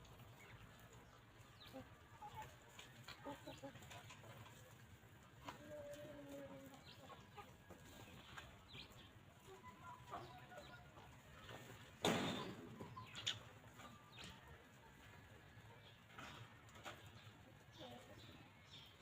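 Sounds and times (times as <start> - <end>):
hens clucking softly: 0.0 - 19.0.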